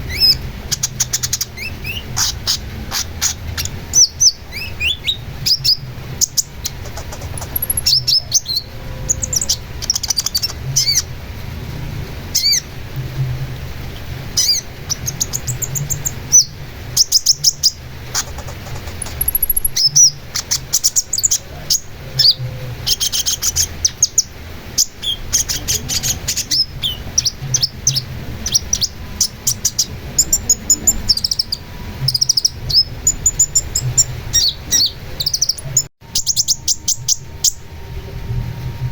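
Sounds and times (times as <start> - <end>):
songbird singing: 0.0 - 11.2, 12.2 - 37.8.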